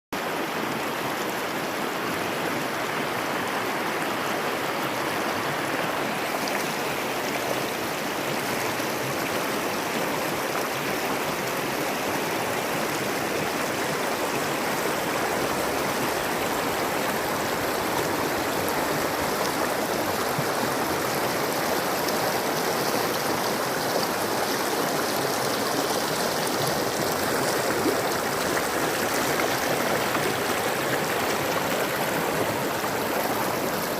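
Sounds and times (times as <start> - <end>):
river water flowing: 0.2 - 33.9.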